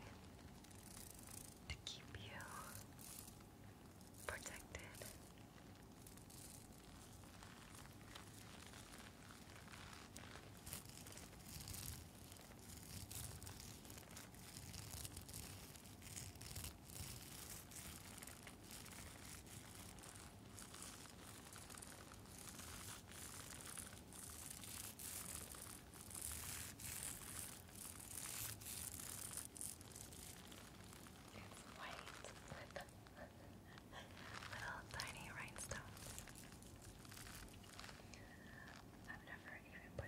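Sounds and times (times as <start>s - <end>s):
scratching on a face mask: 0.0s - 40.0s.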